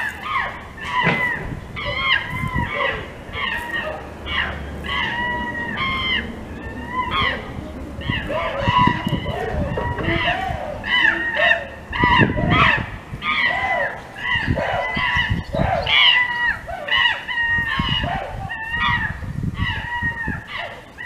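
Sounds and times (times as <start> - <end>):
birds calling: 0.0 - 21.0
low rumbling: 0.0 - 21.0.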